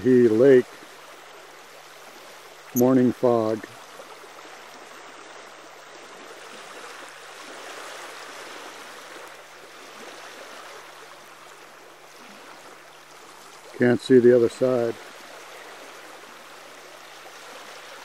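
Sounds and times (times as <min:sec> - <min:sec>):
waves lapping on pebble shore: 0:00.5 - 0:14.0, 0:14.6 - 0:18.0.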